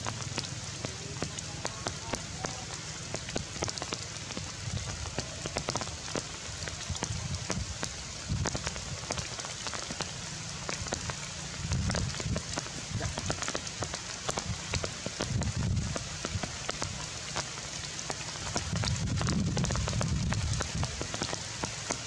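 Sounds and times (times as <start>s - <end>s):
rain falling on leaves: 0.0s - 22.0s
raindrops ticking: 0.0s - 22.0s.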